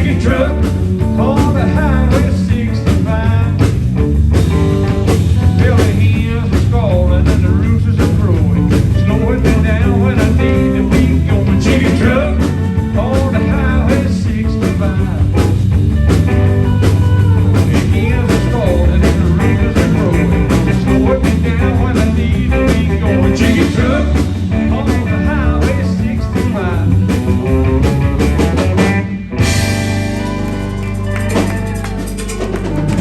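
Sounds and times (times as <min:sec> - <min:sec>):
blues-rock band playing: 0:00.0 - 0:33.0
electric guitar: 0:00.0 - 0:33.0.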